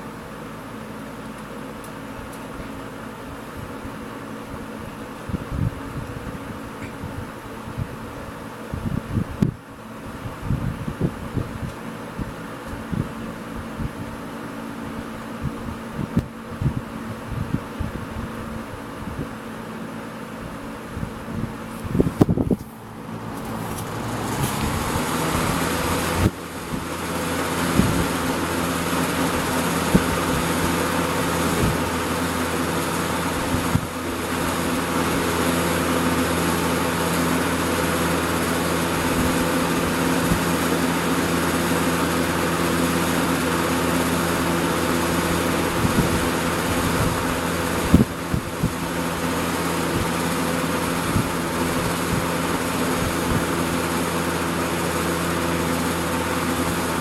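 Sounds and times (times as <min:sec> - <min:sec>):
box fan running: 0:00.0 - 0:57.0.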